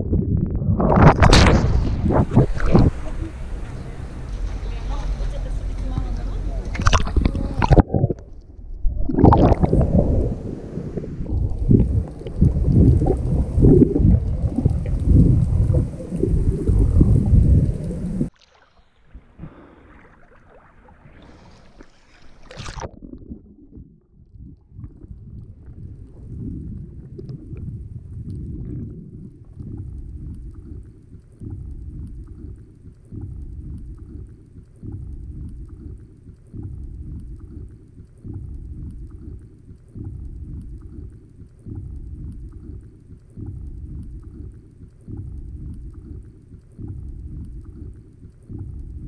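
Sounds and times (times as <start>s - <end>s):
muffled underwater rumble: 0.0s - 49.0s.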